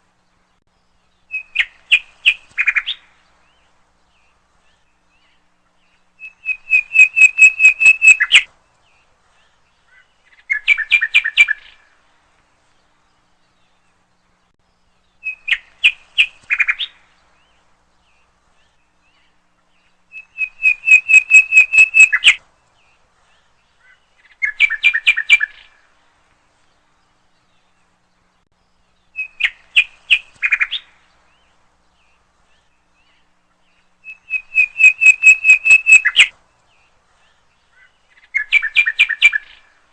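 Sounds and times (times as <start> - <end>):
songbird rapid chirps: 0.0 - 39.9.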